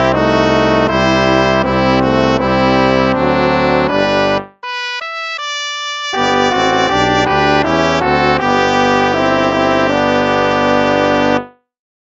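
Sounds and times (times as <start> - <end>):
brass playing hymn chords: 0.0 - 11.5.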